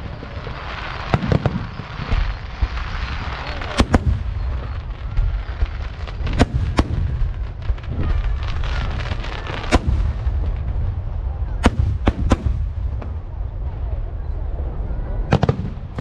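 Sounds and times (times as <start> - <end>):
fireworks rumble and crackle: 0.0 - 16.0.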